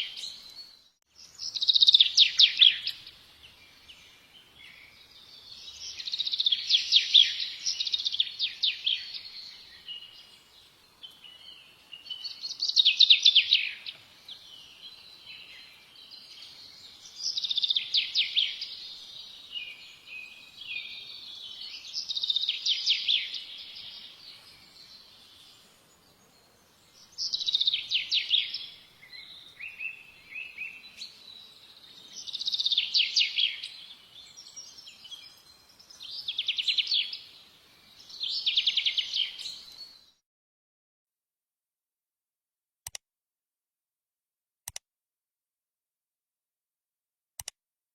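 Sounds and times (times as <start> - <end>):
soft bird twittering: 0.0 - 25.6, 26.3 - 40.2
songbird singing trilled notes: 0.0 - 40.2.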